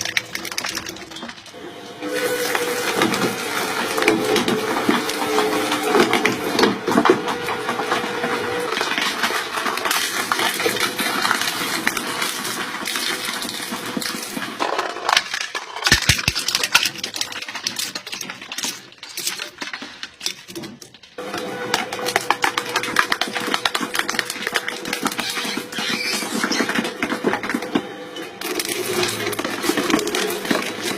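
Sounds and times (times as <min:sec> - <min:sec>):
crushing machine breaking material: 0:00.0 - 0:30.9.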